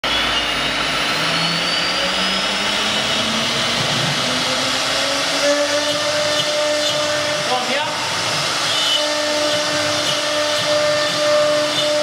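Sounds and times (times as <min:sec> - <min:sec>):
router spindle whining: 0:00.0 - 0:12.0.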